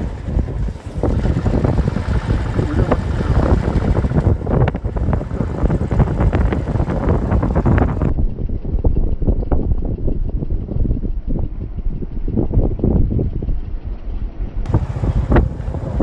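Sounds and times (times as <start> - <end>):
road noise: 0.0 - 8.7, 11.5 - 16.0
vehicle engine: 0.0 - 16.0
wind buffeting microphone: 0.0 - 16.0.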